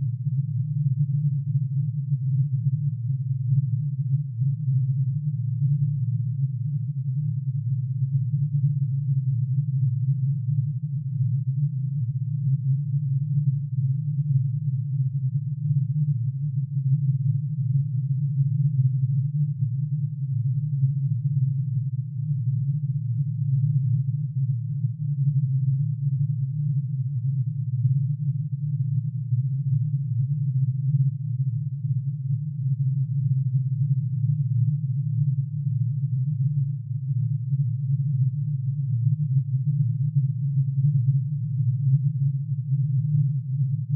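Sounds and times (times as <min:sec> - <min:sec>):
synthesized low humming drone: 0:00.0 - 0:43.9.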